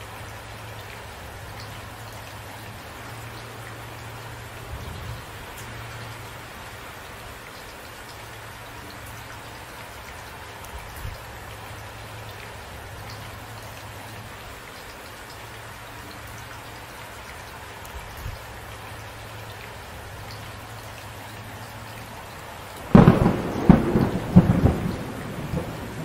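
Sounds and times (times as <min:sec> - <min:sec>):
raindrops hitting a surface: 0:00.0 - 0:26.0
steady rainfall: 0:00.0 - 0:26.0.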